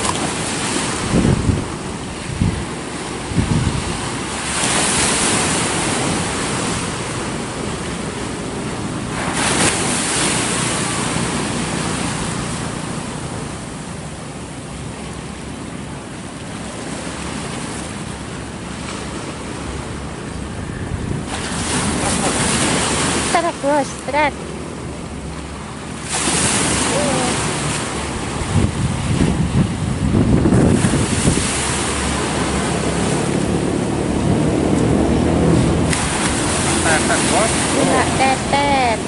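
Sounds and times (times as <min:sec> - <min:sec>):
waves breaking on rocky shore: 0:00.0 - 0:39.0.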